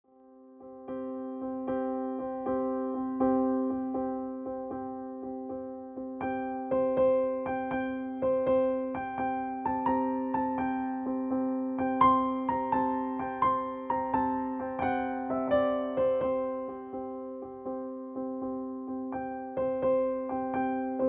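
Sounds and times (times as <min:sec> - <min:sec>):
soft keyboard melody: 0:00.2 - 0:21.0.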